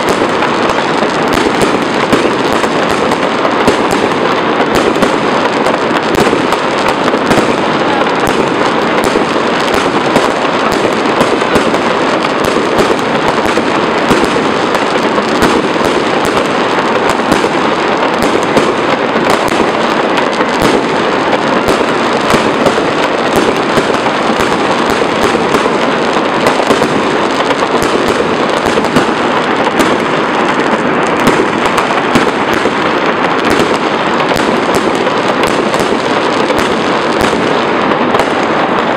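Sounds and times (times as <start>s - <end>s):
fireworks barrage: 0.0s - 38.9s.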